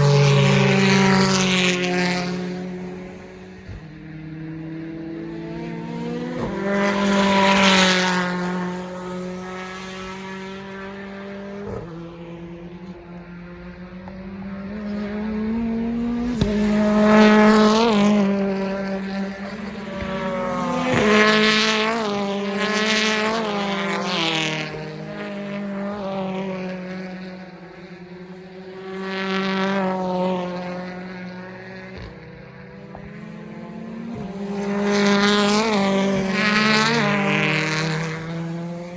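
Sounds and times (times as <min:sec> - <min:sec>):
race cars passing at speed: 0:00.0 - 0:38.9.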